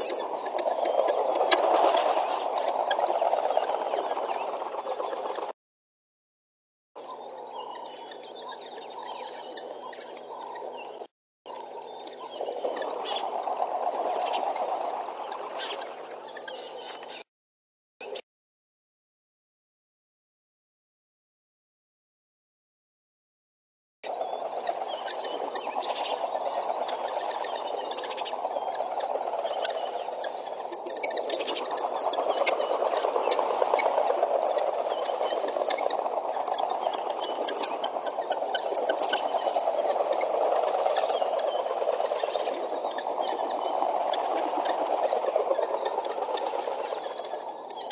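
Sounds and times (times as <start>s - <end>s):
guineafowl flock cackling: 0.0s - 5.5s, 7.0s - 17.2s, 24.1s - 47.9s
small birds chirping: 0.0s - 5.6s, 7.0s - 17.3s, 24.1s - 47.9s.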